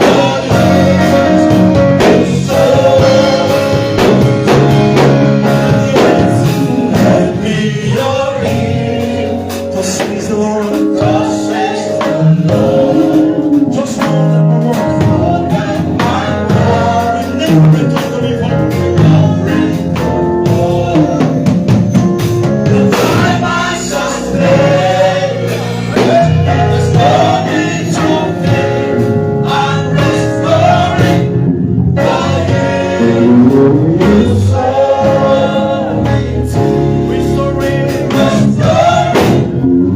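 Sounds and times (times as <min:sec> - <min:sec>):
drums keeping a beat: 0:00.0 - 0:39.9
group of voices singing: 0:00.0 - 0:39.9
instrumental accompaniment: 0:00.0 - 0:39.9.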